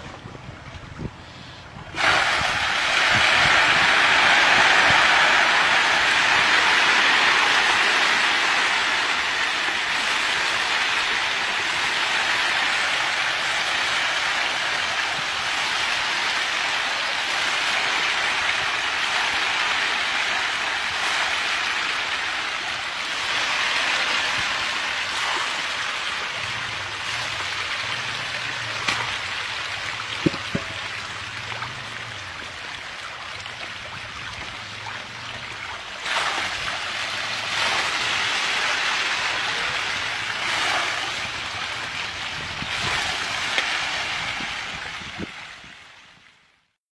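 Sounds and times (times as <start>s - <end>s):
fish splashing at water surface: 2.0s - 45.8s.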